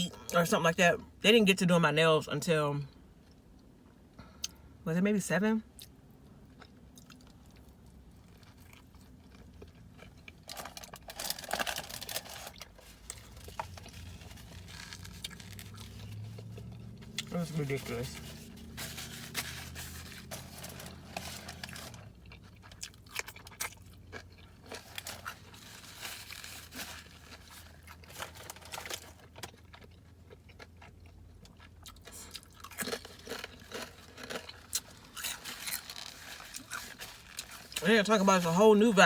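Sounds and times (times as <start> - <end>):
person chewing and crunching food: 5.8 - 39.0.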